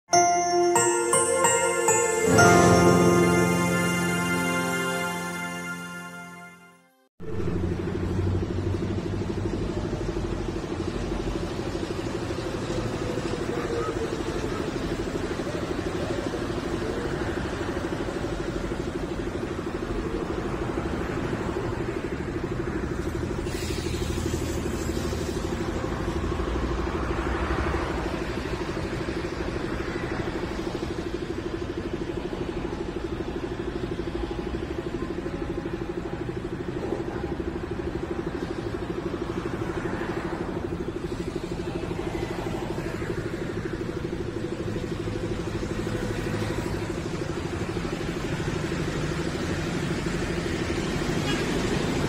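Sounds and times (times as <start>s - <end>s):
road traffic rumble: 7.4s - 52.0s.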